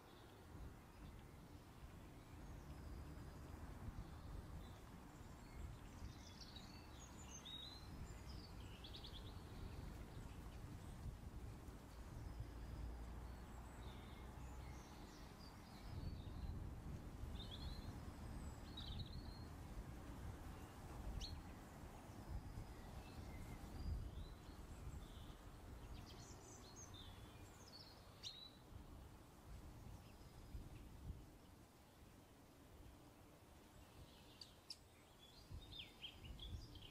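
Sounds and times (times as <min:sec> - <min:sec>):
small birds chirping: 0:00.0 - 0:32.1, 0:32.9 - 0:36.9.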